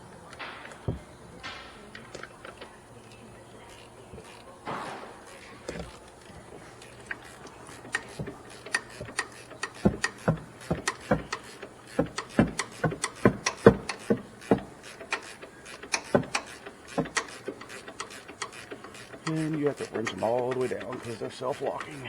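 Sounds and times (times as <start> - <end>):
hand ratchet clicking: 0.2 - 22.0.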